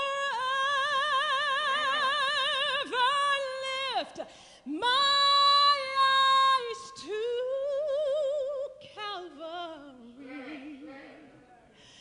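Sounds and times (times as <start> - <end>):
soprano singing: 0.0 - 11.4.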